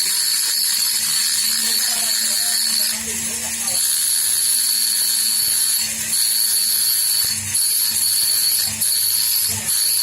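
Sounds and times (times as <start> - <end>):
power tool whining: 0.0 - 10.0.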